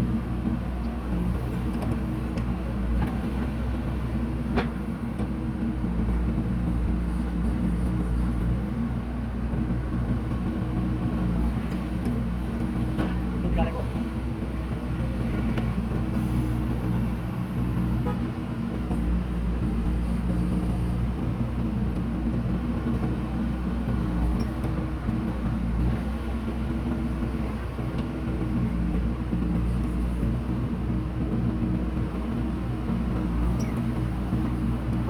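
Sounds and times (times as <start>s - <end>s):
backhoe diesel engine drone: 0.0s - 35.0s.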